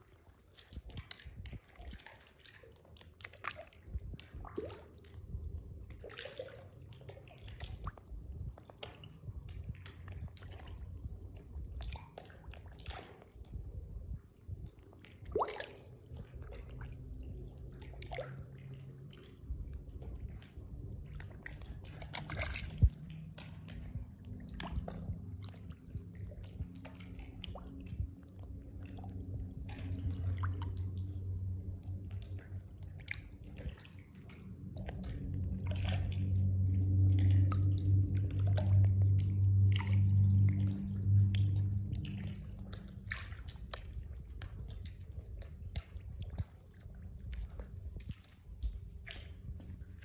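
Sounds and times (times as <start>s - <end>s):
water drips and splashes: 0.0s - 50.0s
low rumble: 6.8s - 50.0s.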